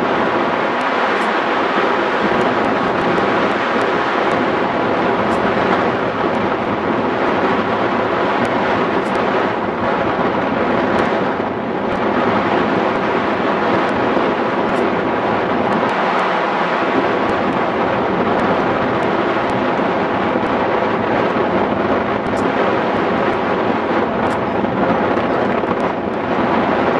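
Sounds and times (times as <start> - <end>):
wind roaring over microphone: 0.0 - 26.9.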